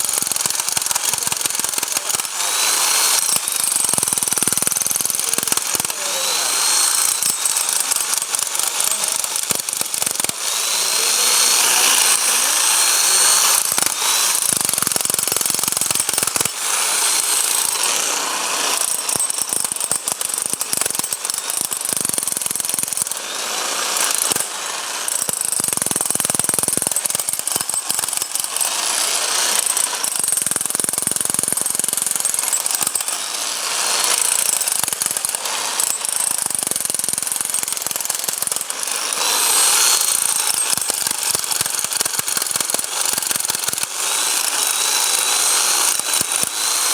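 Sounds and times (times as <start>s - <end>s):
hammer drill hammering: 0.0s - 46.9s.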